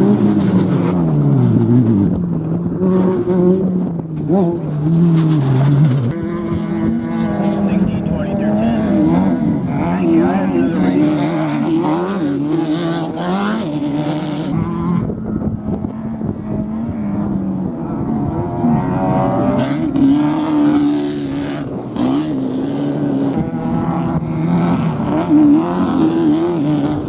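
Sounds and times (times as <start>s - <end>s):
race vehicle engines revving: 0.0s - 27.0s.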